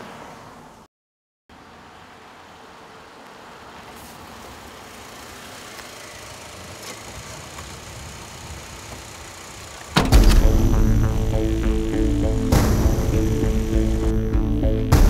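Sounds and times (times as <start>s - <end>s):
roadside rumble and hiss: 0.0s - 0.9s, 1.5s - 15.0s.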